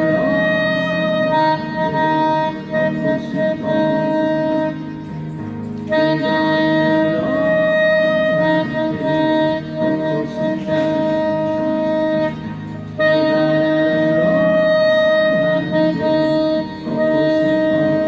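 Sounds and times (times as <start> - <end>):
lower accompaniment: 0.0 - 18.0
saxophone melody: 0.0 - 18.0.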